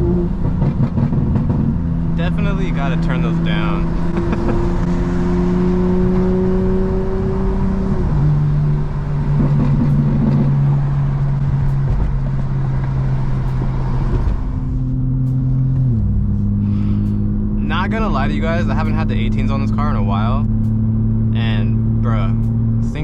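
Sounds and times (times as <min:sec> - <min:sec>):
car engine cruising: 0:00.0 - 0:23.0
road noise: 0:00.0 - 0:23.0.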